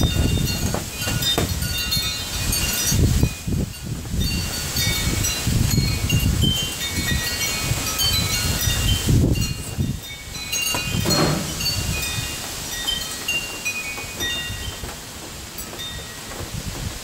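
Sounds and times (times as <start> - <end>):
wind chimes ringing: 0.0 - 16.7
wind gusts on microphone: 0.0 - 17.0.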